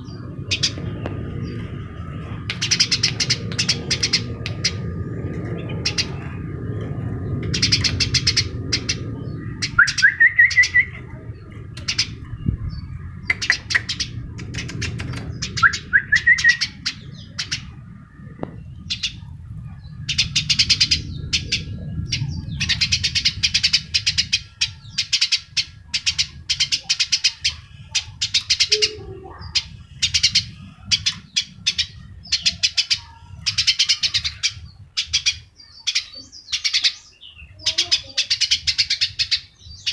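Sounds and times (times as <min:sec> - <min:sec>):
low rumble: 0:00.0 - 0:37.6
bird chirping: 0:00.0 - 0:39.9.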